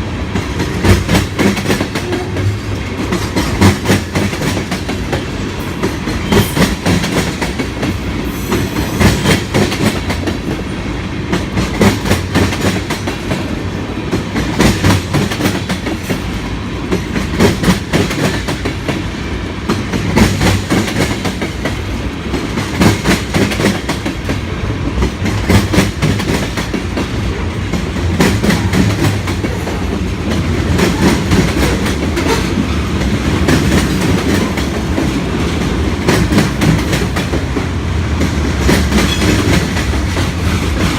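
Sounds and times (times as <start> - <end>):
freight train rolling past: 0.0 - 40.9
wheels clacking over rail joints: 0.3 - 40.9.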